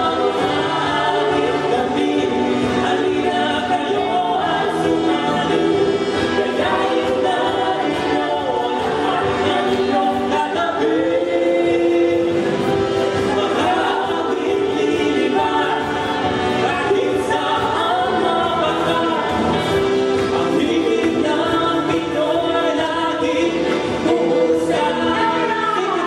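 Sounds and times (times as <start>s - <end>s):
vocal group singing in harmony: 0.0s - 26.0s.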